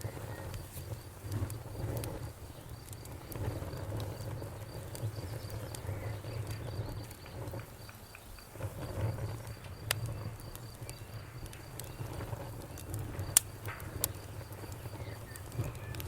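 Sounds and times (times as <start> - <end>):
campfire crackling: 0.0 - 16.0
insects chirping: 0.0 - 16.0.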